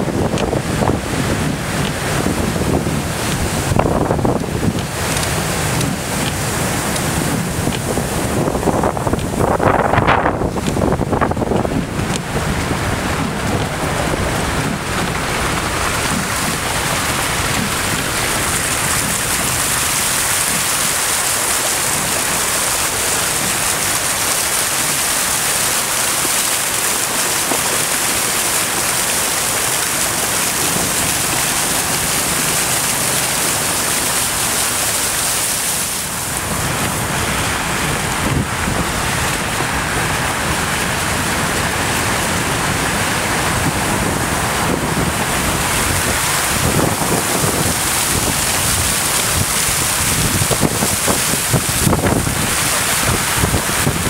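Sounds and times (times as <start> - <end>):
storm wind: 0.0 - 54.0
surf on the shore: 0.0 - 54.0.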